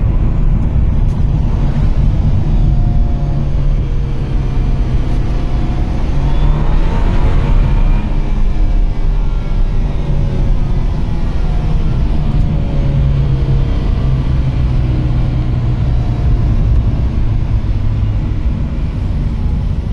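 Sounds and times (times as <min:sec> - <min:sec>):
car engine droning under load: 0:00.0 - 0:19.9
road and wind noise: 0:00.0 - 0:19.9.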